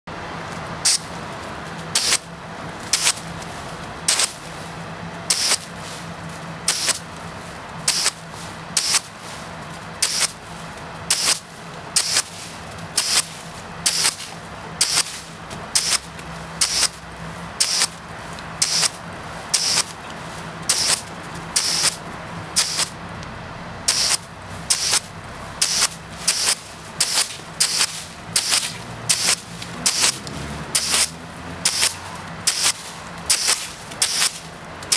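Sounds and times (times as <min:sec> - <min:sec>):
water jet spurting in hissing bursts: 0:02.9 - 0:04.7, 0:05.3 - 0:06.1, 0:06.7 - 0:20.0, 0:20.6 - 0:23.0, 0:23.9 - 0:34.9.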